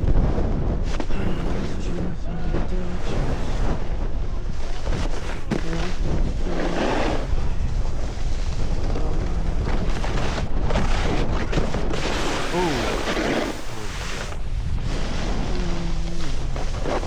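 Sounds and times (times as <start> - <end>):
snowboard scraping on snow: 0.0 - 17.0
wind on microphone: 0.0 - 17.0.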